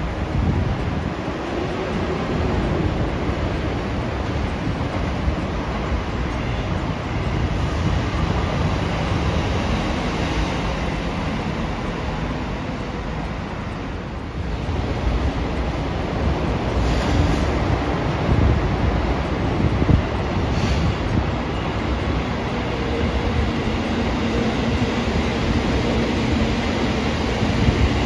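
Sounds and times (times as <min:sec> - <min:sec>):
train running past: 0:00.0 - 0:28.0.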